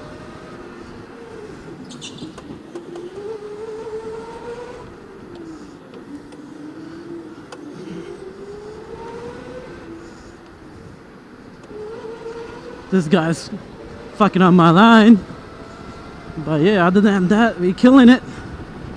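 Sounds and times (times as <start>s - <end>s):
electric go-kart motor whining: 0.0s - 18.9s.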